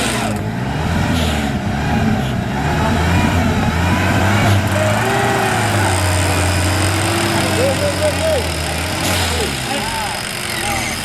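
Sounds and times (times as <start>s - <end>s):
engine running with low drone: 0.0s - 11.0s.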